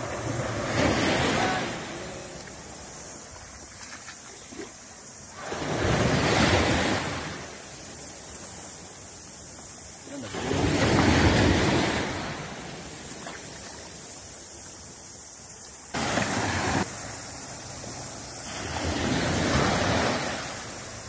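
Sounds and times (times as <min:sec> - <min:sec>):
small waves washing on beach: 0:00.0 - 0:21.0.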